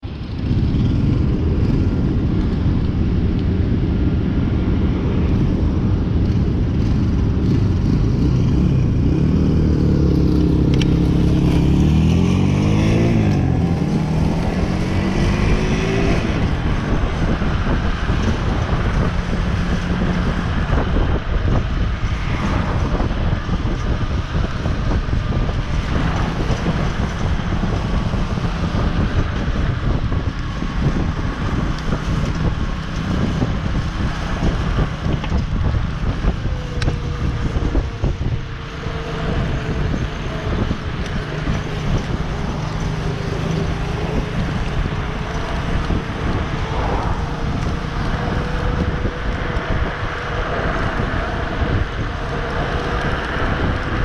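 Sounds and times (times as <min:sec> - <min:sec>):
wind and road noise: 0:00.0 - 0:54.0
motorcycle engine revving: 0:04.9 - 0:54.0.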